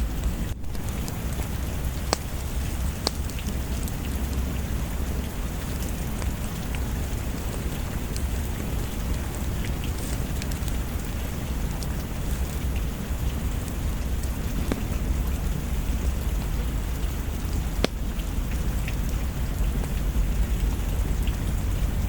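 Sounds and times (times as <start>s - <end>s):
deep low rumble: 0.0s - 22.0s
heavy rain: 0.0s - 22.0s.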